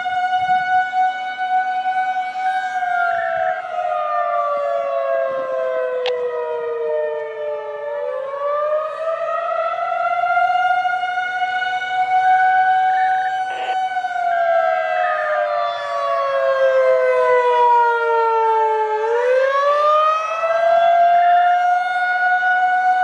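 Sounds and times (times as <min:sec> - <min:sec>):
outdoor warning siren wailing: 0:00.0 - 0:23.0.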